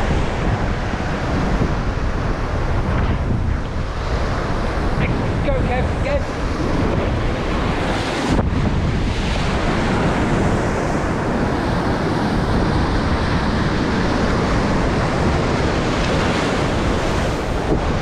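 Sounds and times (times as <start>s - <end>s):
surf washing on rocks: 0.0s - 18.0s
wind buffeting microphone: 0.0s - 18.0s.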